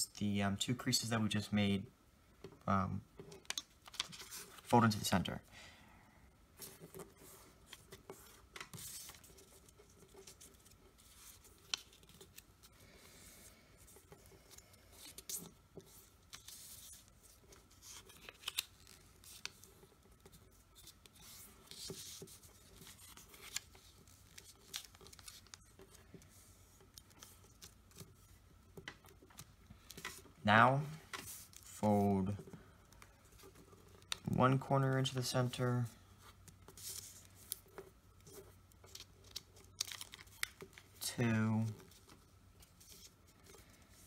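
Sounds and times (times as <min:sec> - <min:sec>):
paper rustling: 0:03.3 - 0:05.0, 0:06.6 - 0:44.0.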